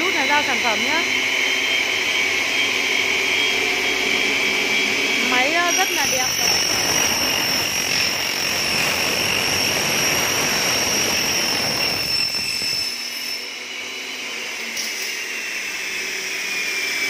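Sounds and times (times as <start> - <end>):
high saw blade whine: 0.0 - 17.0
saw cutting aluminium: 0.0 - 17.0.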